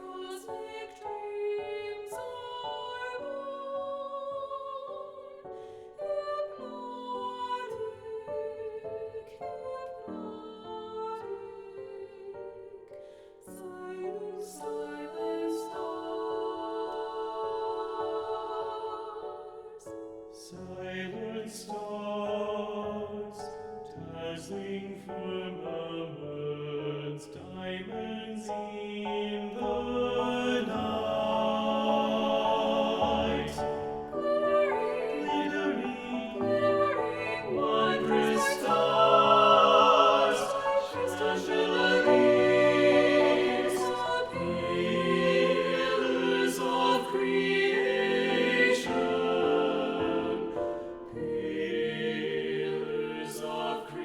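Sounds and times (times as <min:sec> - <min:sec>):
choir singing: 0:00.0 - 0:54.0
piano accompaniment: 0:00.0 - 0:54.0.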